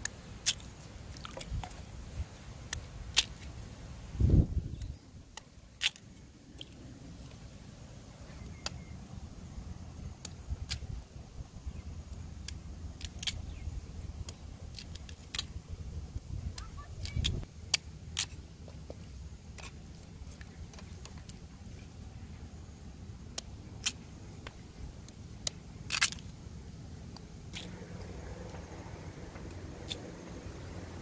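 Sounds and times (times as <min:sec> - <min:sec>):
low steady rumble: 0:00.0 - 0:31.0.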